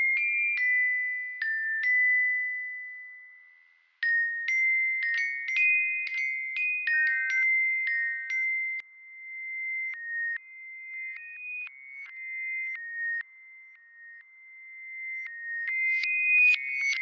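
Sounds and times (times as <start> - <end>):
bell-like metallic chimes: 0.0 - 17.0.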